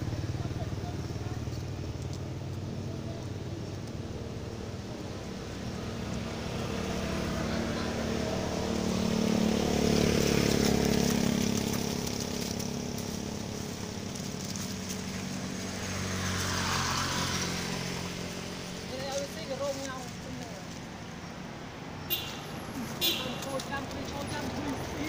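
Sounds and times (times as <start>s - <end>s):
vehicle engine running: 0.0s - 21.2s.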